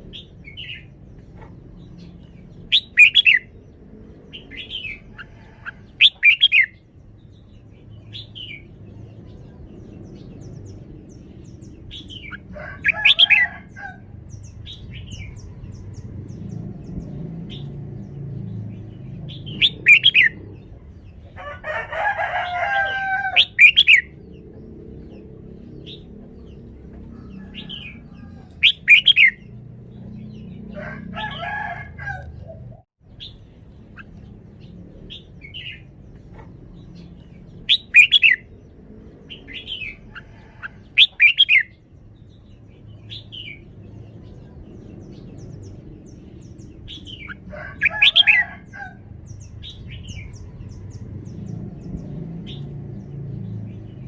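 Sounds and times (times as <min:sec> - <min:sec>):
bird singing sharp phrases: 0:00.0 - 0:21.3, 0:22.4 - 0:30.8, 0:32.5 - 0:54.0.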